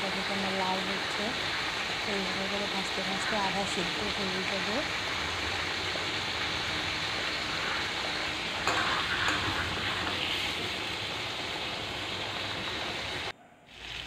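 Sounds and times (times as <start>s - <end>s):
vegetables sizzling in oil: 0.0s - 14.0s
spatula stirring vegetables: 0.2s - 13.3s.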